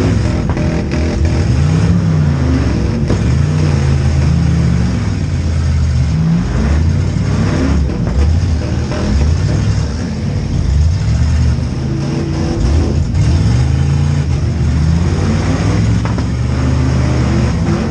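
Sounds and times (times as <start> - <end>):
car engines revving: 0.0 - 17.9.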